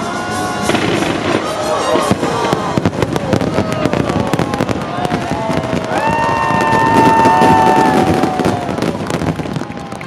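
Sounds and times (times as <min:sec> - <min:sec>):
fireworks bursting and crackling: 0:00.0 - 0:10.0.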